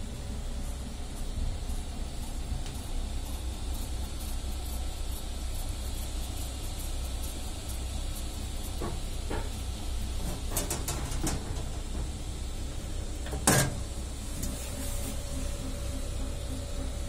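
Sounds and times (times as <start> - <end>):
three d printer humming: 0.0 - 17.0.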